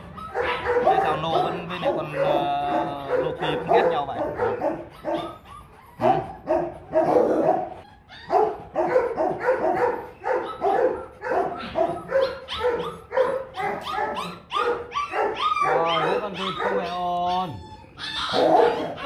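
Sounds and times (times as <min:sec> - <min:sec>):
dog barking: 0:00.0 - 0:05.4, 0:06.0 - 0:17.6, 0:18.2 - 0:19.0.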